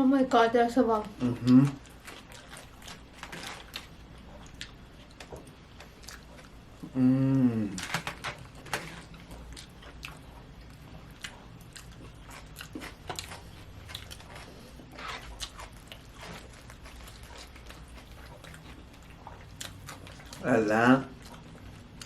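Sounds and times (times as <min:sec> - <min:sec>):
low steady hum: 0:00.0 - 0:22.0
people chewing food: 0:00.3 - 0:22.0.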